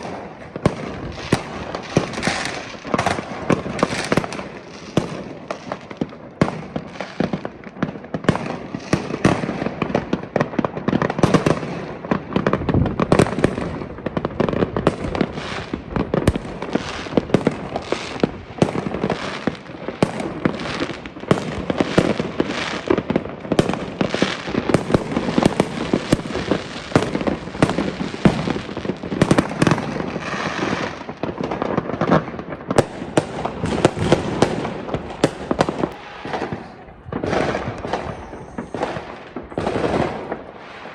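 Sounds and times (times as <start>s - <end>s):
fireworks cracks and bangs: 0.0s - 40.9s.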